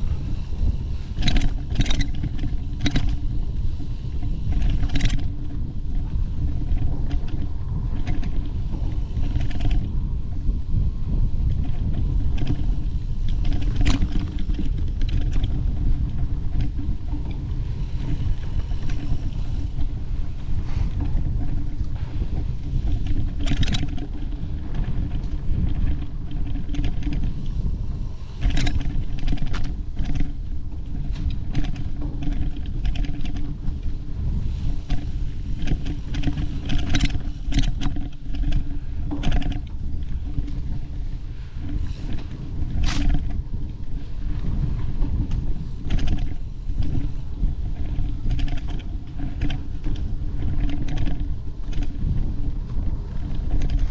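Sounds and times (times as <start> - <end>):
bike clicks and rattles: 0.0 - 53.9
wind and trail rumble: 0.0 - 53.9.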